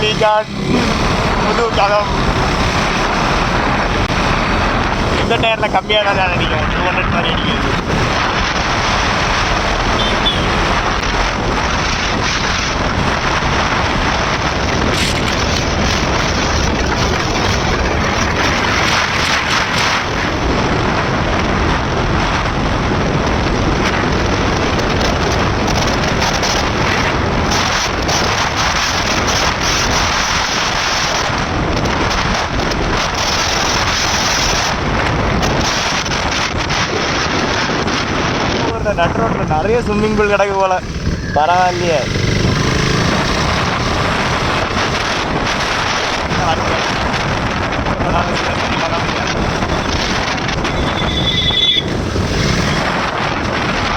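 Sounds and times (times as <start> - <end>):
motorcycle tyres on wet road: 0.0 - 53.9
wind rush: 0.0 - 53.9.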